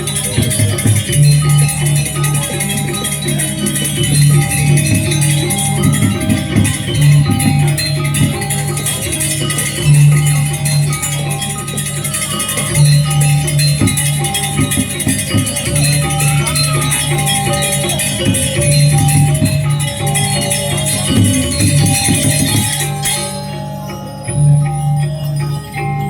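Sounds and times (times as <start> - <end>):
cymbals shimmering: 0.0 - 26.0
metallophone notes ringing: 0.0 - 26.0.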